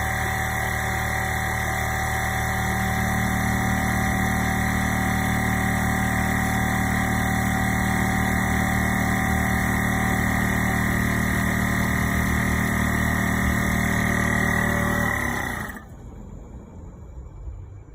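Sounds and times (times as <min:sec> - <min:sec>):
air compressor running: 0:00.0 - 0:16.4.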